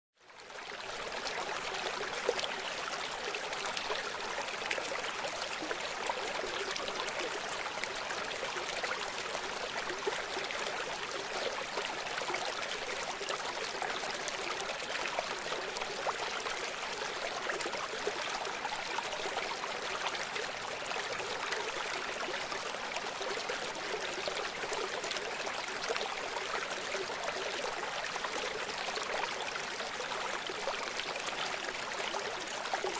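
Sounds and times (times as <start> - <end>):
stream flowing over stones: 0.3 - 32.9.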